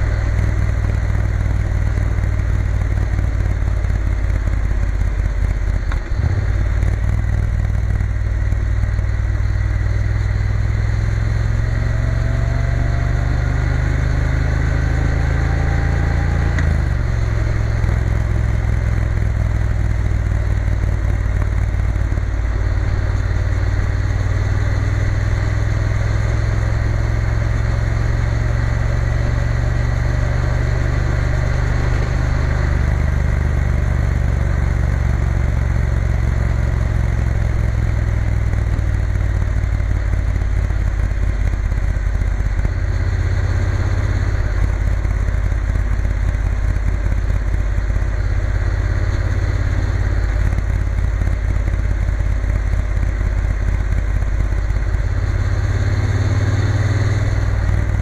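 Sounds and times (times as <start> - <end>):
motorcycle engine running: 0.0 - 58.0
rush of road noise: 0.0 - 58.0.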